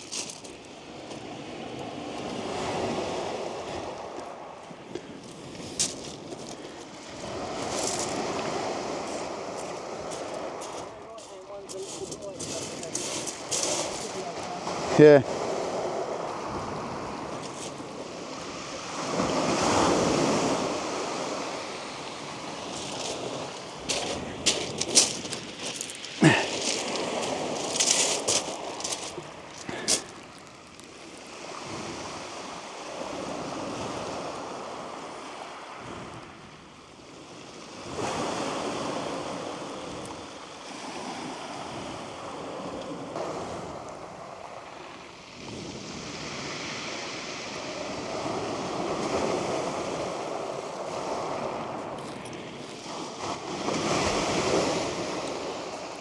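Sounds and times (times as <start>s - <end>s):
waves breaking on shingle beach: 0.0s - 56.0s.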